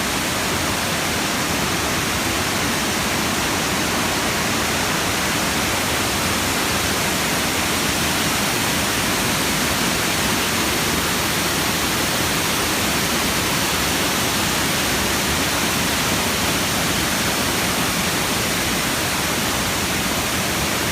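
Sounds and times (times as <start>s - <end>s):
water rushing over rocks: 0.0s - 20.9s.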